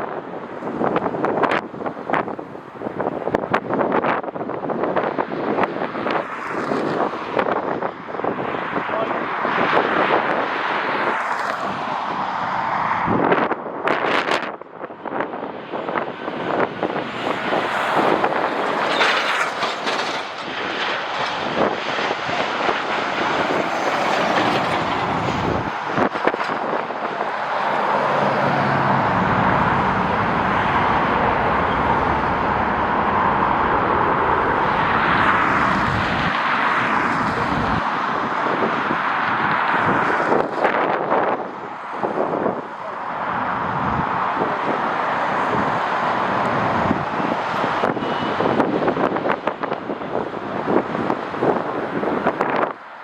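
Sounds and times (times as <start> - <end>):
jet engines rushing: 0.0 - 53.0
wind buffeting microphone: 0.0 - 53.0.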